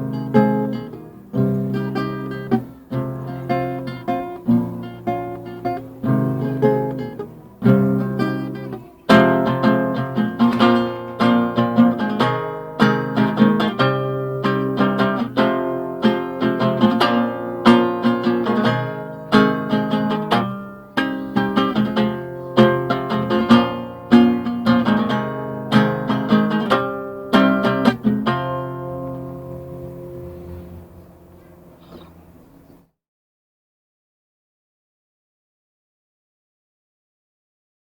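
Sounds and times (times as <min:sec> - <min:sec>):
acoustic guitar melody: 0:00.0 - 0:32.9.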